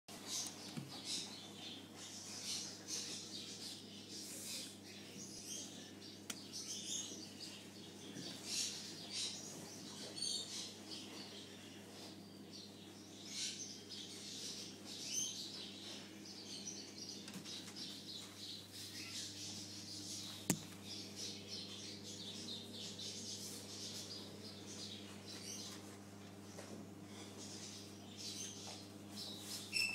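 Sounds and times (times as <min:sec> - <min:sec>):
small birds chirping: 0:00.1 - 0:29.9
steady electrical hum: 0:00.1 - 0:29.9.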